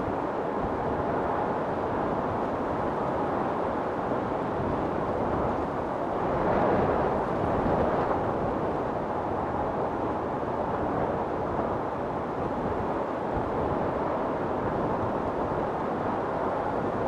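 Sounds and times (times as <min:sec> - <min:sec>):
storm wind blowing: 0:00.0 - 0:17.0.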